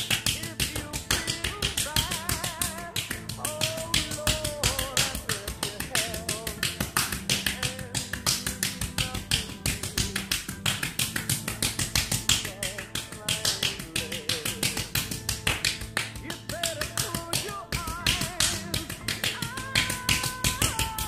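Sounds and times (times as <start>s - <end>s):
hands tapping on bare back: 0.0s - 21.0s.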